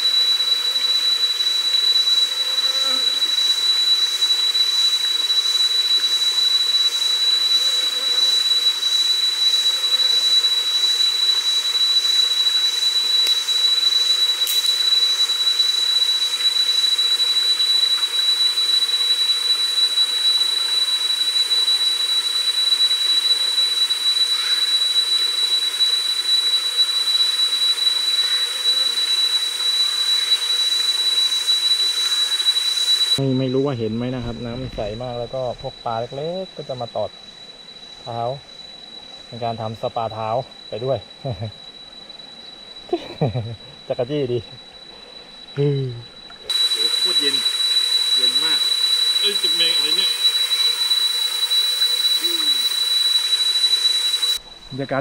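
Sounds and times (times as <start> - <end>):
high-pitched insect drone: 0.0 - 55.0
insect pulsing: 0.0 - 55.0.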